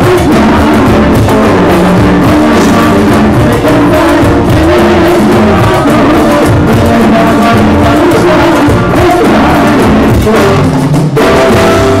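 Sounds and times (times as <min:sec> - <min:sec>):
acoustic guitar: 0:00.0 - 0:12.0
congas: 0:00.0 - 0:12.0
drum kit: 0:00.0 - 0:12.0
live band playing loudly: 0:00.0 - 0:12.0.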